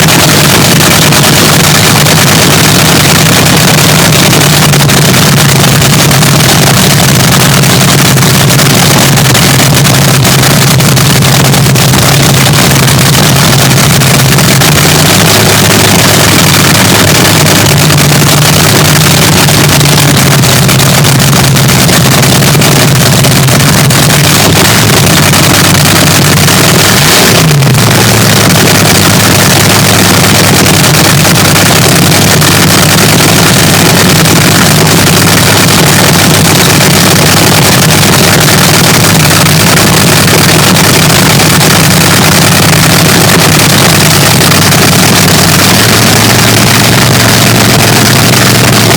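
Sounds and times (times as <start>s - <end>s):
dragster engine cackle: 0.0s - 48.9s.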